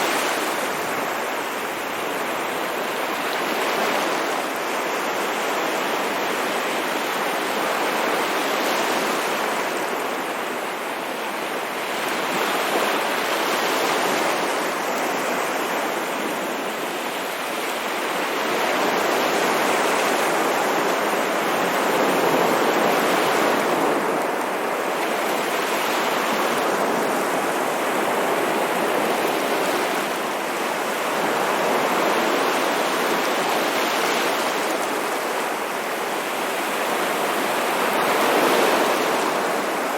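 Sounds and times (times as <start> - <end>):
ocean waves surf: 0.0 - 39.9.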